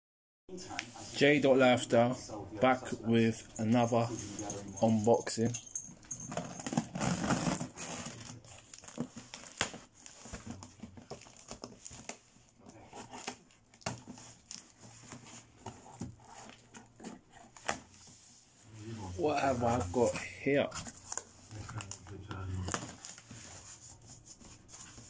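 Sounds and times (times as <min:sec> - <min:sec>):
cardboard rustling: 0:03.8 - 0:25.0.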